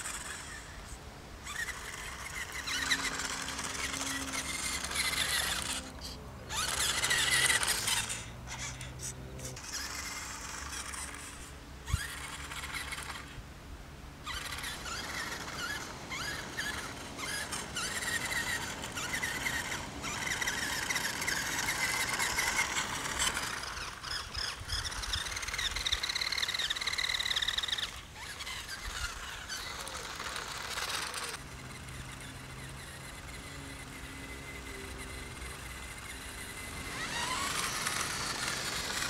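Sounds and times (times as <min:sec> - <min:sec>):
toy car electric motor whining: 0:00.0 - 0:13.4, 0:14.2 - 0:39.0.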